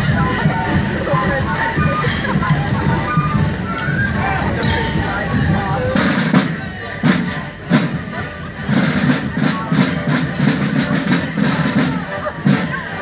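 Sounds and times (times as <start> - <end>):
folk dance music on squeezebox: 0.0 - 13.0.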